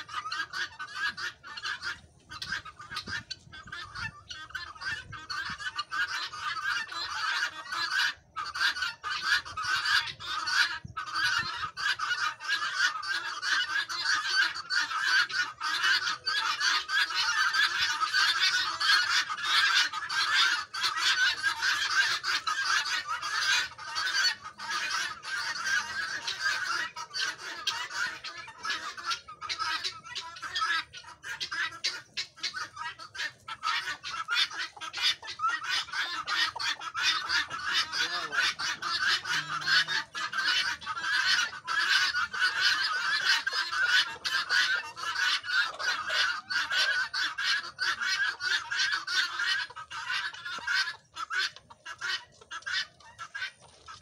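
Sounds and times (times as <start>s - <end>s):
guineafowl flock calling: 0.0s - 54.0s.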